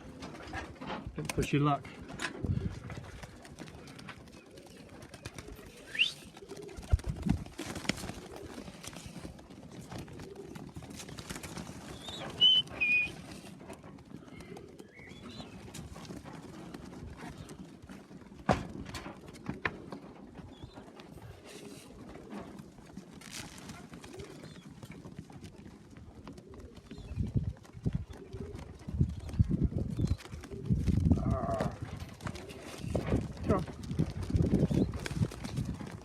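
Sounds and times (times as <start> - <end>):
pigeons cooing: 0.0 - 1.2, 1.8 - 36.0.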